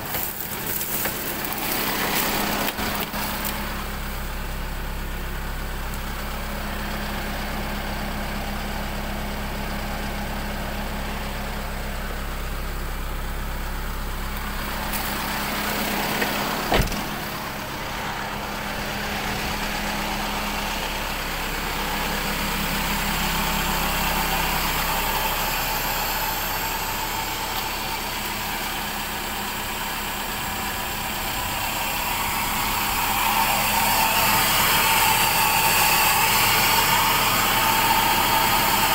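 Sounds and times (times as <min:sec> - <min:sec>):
diesel engine running: 0:00.0 - 0:38.9
exhaust hiss: 0:00.0 - 0:38.9.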